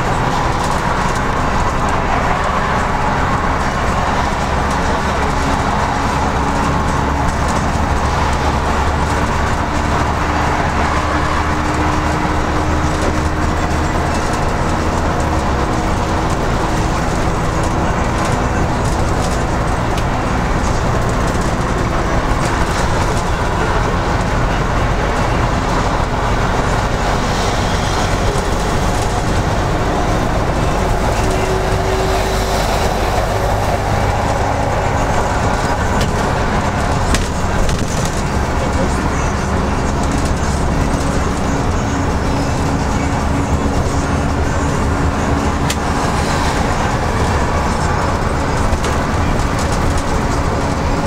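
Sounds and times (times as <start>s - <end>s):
bus engine drone: 0.0s - 51.0s
tyre and road noise: 0.0s - 51.0s.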